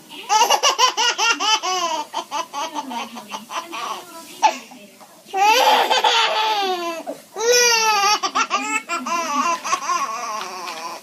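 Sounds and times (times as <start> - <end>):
baby laughing: 0.2 - 4.6, 5.4 - 11.0.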